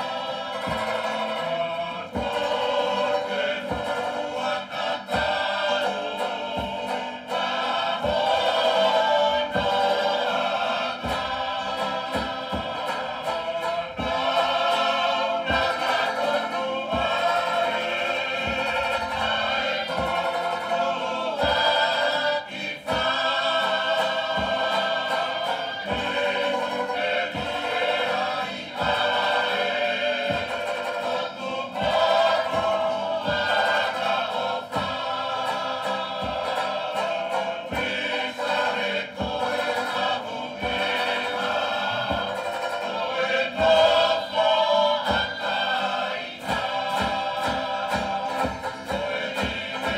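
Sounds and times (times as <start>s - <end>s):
group singing in harmony: 0.0s - 49.9s
steady percussive beat: 0.0s - 49.9s.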